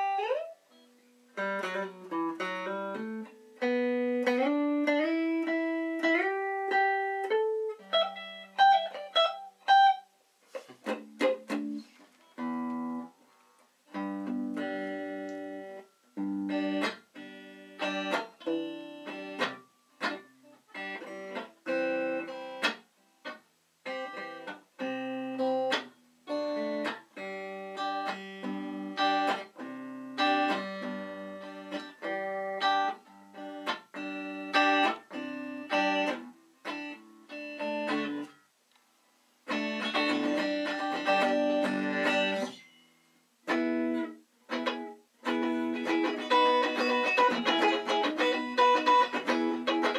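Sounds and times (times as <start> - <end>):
electric guitar playing chords: 0.0 - 10.1, 10.8 - 13.1, 13.9 - 38.4, 39.4 - 49.9.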